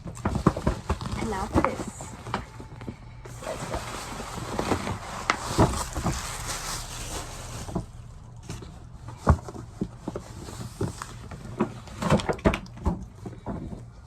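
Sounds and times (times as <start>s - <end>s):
packaging rustling: 0.0s - 13.7s.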